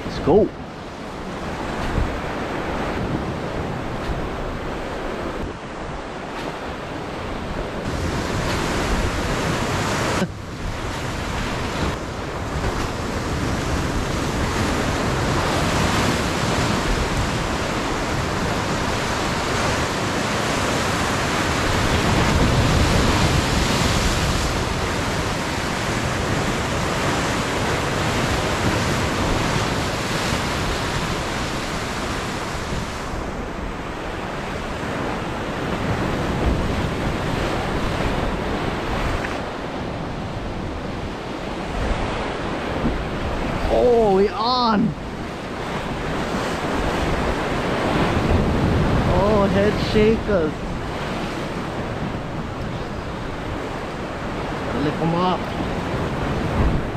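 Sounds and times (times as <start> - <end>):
ocean surf breaking on rocks: 0.0 - 56.9
wind on microphone: 0.0 - 56.9.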